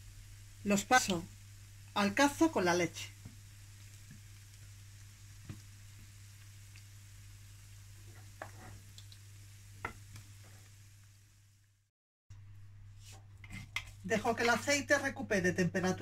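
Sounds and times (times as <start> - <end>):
faint oil sizzle: 0.0 - 16.0.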